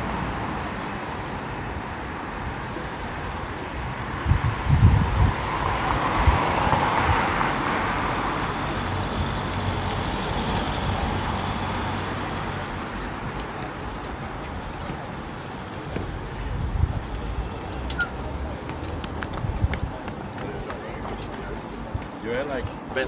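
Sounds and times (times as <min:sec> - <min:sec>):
wind rumbling on microphone: 0:01.6 - 0:20.6.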